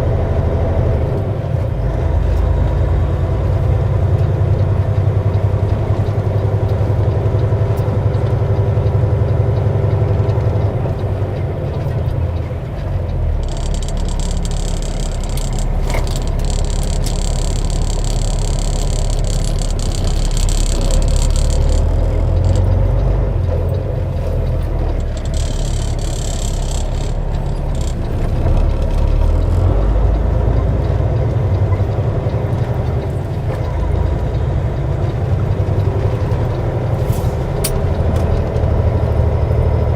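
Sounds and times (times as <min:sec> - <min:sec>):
diesel truck engine rumble: 0:00.0 - 0:39.9.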